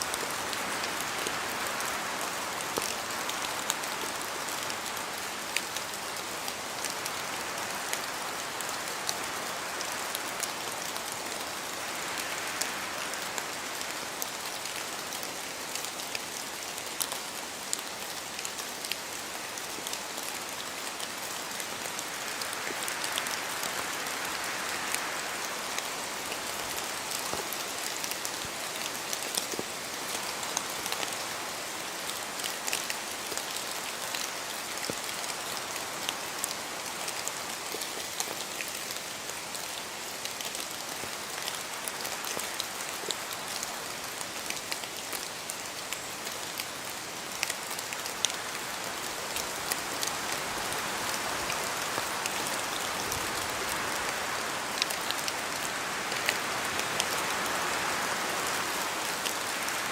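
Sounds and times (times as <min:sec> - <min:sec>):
rain dripping from trees: 0:00.0 - 0:59.9
wind through branches: 0:00.0 - 0:59.9.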